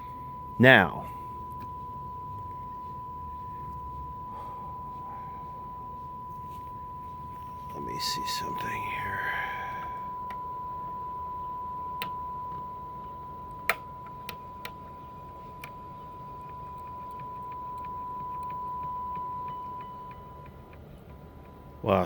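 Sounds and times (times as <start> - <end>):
steady pure test tone: 0.0 - 22.0.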